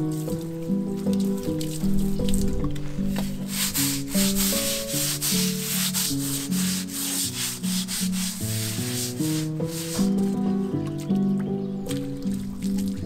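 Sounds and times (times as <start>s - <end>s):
broom scrubbing wet tiled floor: 0.0s - 10.6s
background music: 0.0s - 13.0s.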